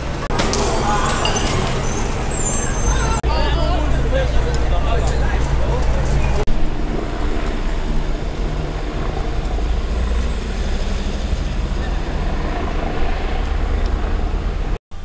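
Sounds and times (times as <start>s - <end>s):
helicopter rotor and engine drone: 0.0s - 15.0s.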